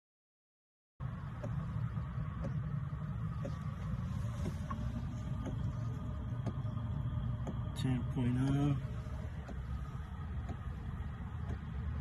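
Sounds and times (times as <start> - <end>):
fuel pump ticking: 1.0 - 12.0
heater blower fan hum: 1.0 - 12.0.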